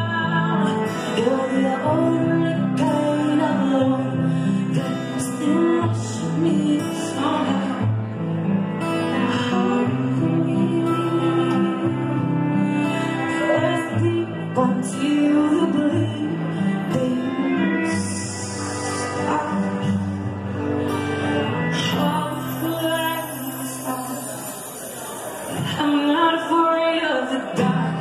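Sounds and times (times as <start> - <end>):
woman singing: 0.0 - 20.3, 21.6 - 24.6, 25.5 - 28.0
live band with acoustic guitar: 0.0 - 28.0.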